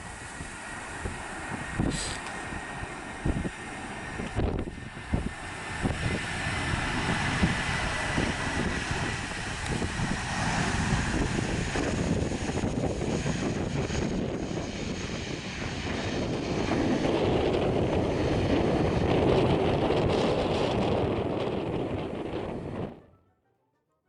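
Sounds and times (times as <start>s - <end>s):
jet airliner engine rumble: 0.0s - 23.0s.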